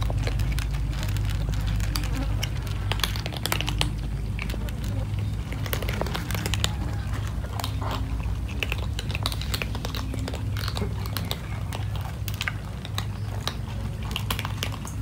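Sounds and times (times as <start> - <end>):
cats crunching dry kibble: 0.0 - 15.0
steady low hum: 0.0 - 15.0.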